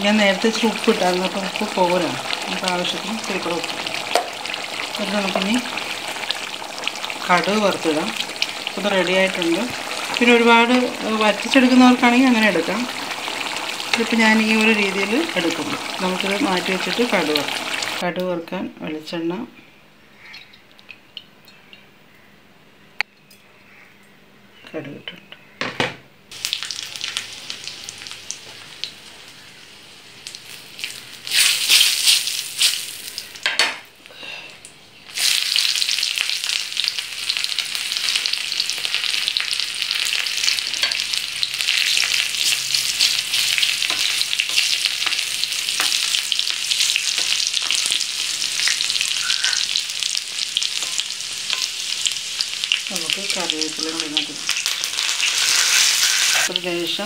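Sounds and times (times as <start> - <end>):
oil sizzling in a pan: 0.0 - 18.0, 26.3 - 33.6, 35.1 - 57.0
seeds crackling in hot oil: 0.0 - 18.3, 26.3 - 57.0.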